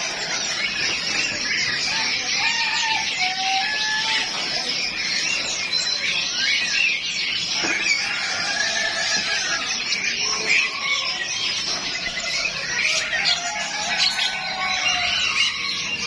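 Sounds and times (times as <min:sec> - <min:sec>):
birds chirping and chattering: 0:00.0 - 0:16.0
whistled bird notes: 0:00.0 - 0:16.0.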